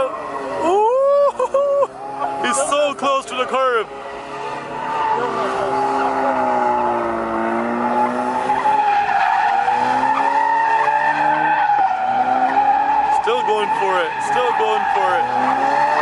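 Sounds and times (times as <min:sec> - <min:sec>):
tires squealing: 0:00.0 - 0:16.0
car engine revving: 0:01.5 - 0:16.0.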